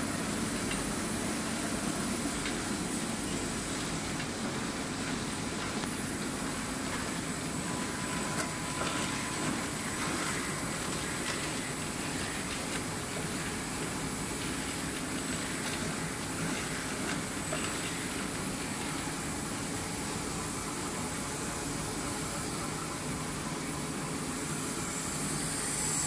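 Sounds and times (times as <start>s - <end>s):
laminator whirring: 0.0s - 26.0s.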